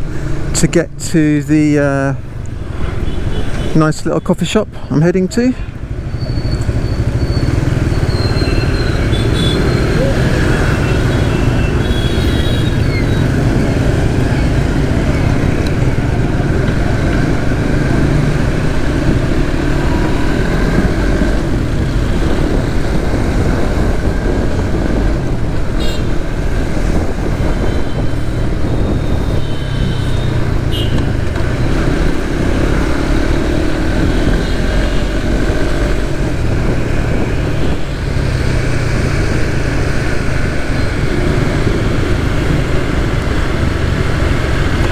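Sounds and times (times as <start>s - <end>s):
road noise: 0.0s - 44.9s
motorcycle engine running: 5.9s - 44.9s
wind rush: 8.4s - 44.9s.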